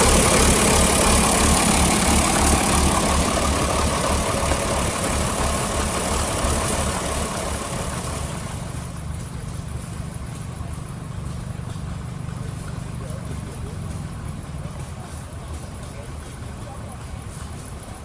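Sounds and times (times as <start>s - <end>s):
engine running with low pulsing: 0.0s - 18.0s.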